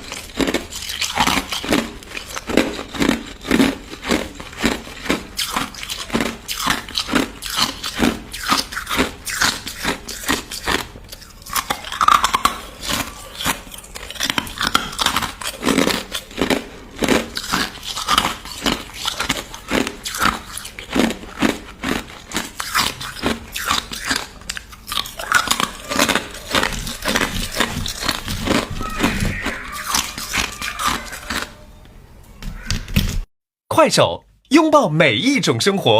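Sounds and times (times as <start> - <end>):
crushed ice being chewed: 0.0 - 31.6.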